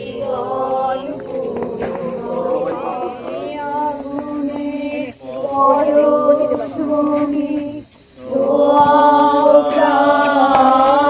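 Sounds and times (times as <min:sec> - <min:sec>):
voices singing a chant: 0:00.0 - 0:11.0.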